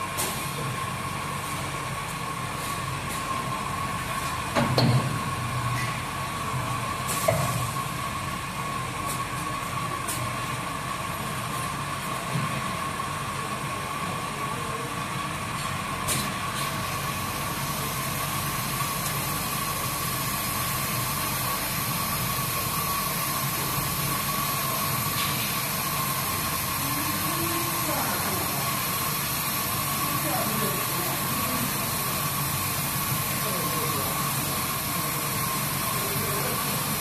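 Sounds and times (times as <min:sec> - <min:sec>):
keg washer hissing whine: 0:00.0 - 0:37.0.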